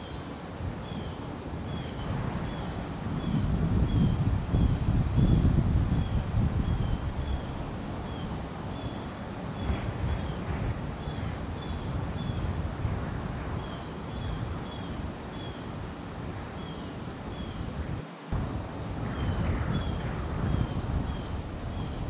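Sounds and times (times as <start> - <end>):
wind blowing on microphone: 0.0 - 22.0.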